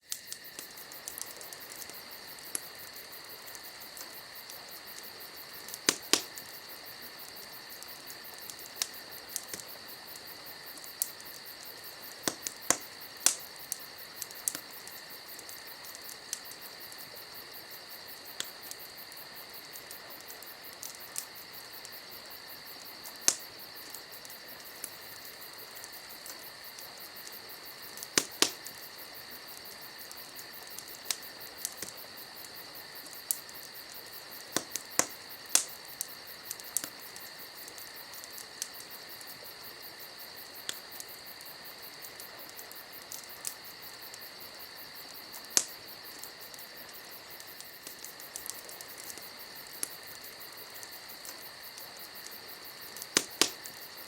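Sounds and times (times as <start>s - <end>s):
campfire crackling and popping: 0.0s - 54.0s
crickets chirping: 0.0s - 54.0s.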